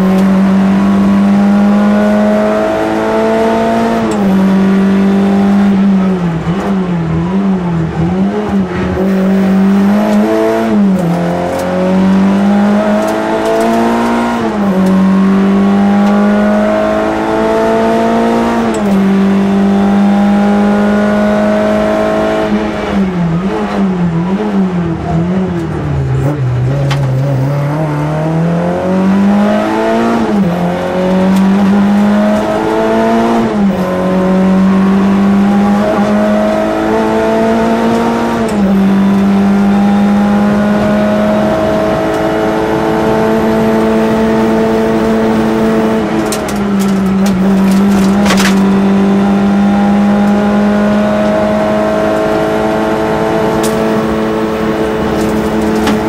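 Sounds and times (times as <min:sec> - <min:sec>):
rally car engine from inside cabin: 0:00.0 - 0:56.0.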